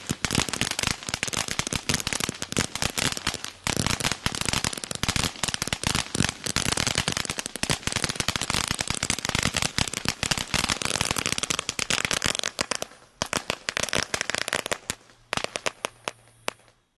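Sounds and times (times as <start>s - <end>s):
ground firework crackling: 0.0s - 16.9s.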